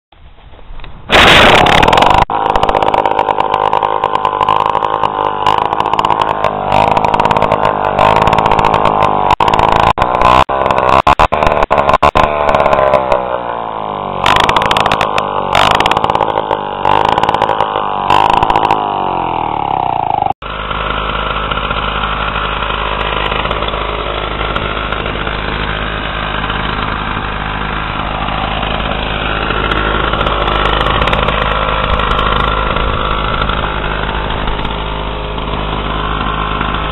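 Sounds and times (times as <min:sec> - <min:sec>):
two-stroke engine popping: 0:01.1 - 0:36.9.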